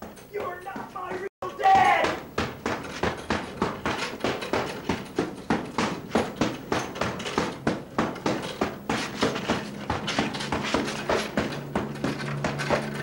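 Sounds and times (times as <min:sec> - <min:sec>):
punches on heavy bag: 0:00.4 - 0:13.0.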